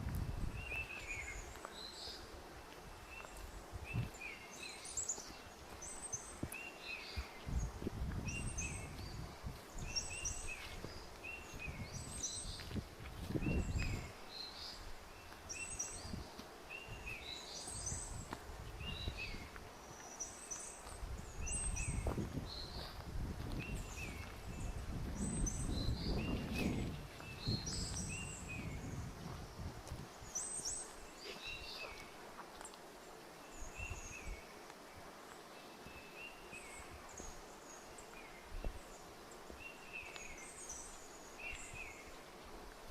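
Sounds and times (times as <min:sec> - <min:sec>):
footsteps on forest trail: 0:00.0 - 0:42.9
songbird chirping: 0:00.0 - 0:42.9.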